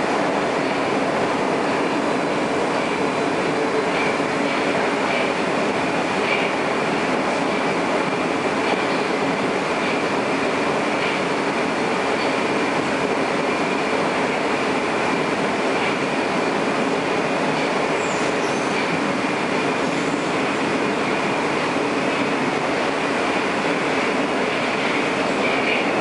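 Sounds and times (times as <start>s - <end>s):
subway train wheels rumbling on rail: 0.0s - 26.0s.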